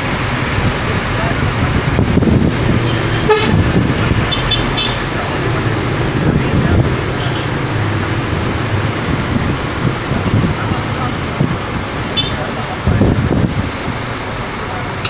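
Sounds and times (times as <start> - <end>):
diesel engine drone: 0.0 - 15.0
road noise: 0.0 - 15.0.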